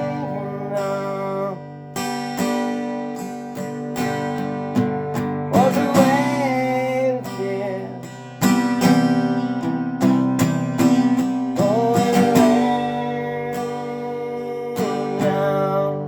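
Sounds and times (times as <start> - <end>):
acoustic guitar strumming chords: 0.0 - 16.0
sliding guitar melody: 0.0 - 16.0.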